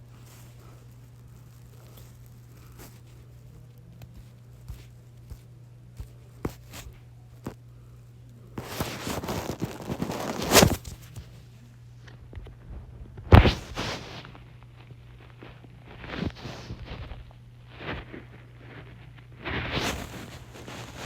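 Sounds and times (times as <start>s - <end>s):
rustling: 0.0s - 21.0s
steady low hum: 0.0s - 21.0s.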